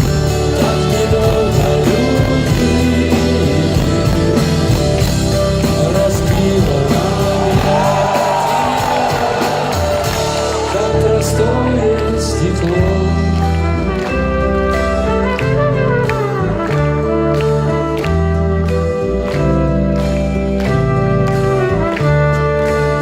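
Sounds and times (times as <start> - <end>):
bass and drums: 0.0 - 23.0
lead guitar melody bending: 0.0 - 23.0.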